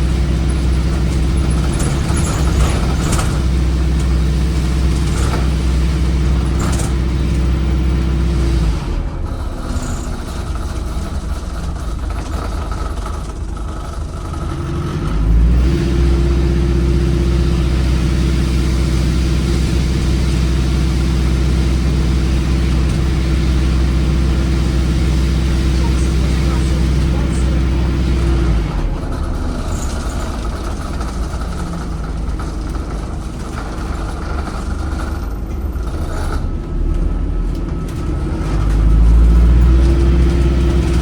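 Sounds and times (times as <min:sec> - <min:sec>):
diesel engine at high revs: 0:00.0 - 0:41.0.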